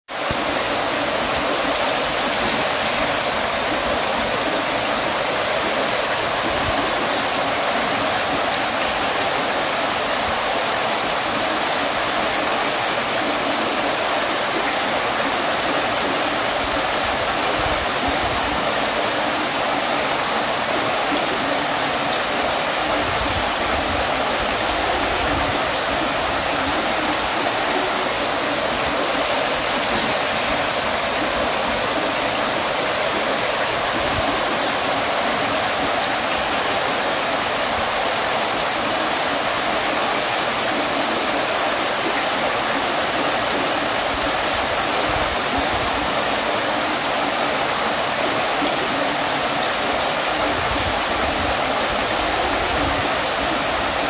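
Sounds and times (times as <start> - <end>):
fountain water splashing: 0.1 - 54.0.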